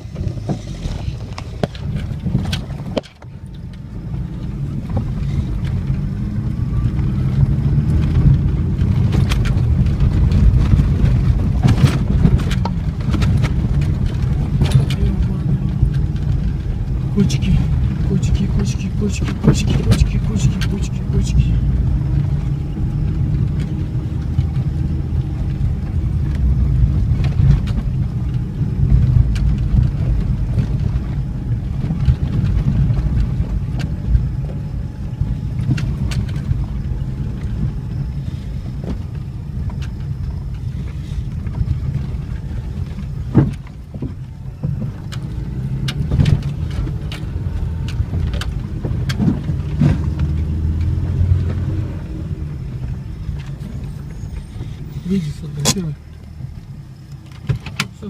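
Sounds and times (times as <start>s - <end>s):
knocks and rattles over bumps: 0.0s - 58.0s
vehicle rumbling on bumpy road: 0.0s - 58.0s.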